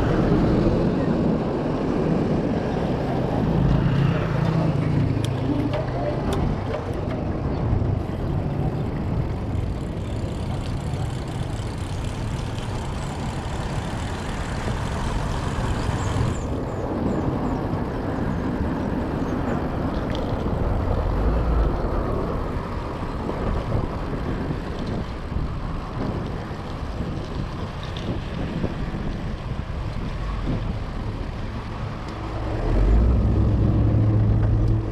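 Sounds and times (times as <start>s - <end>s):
motor traffic: 0.0s - 34.9s
wind rumbling on microphone: 0.0s - 34.9s.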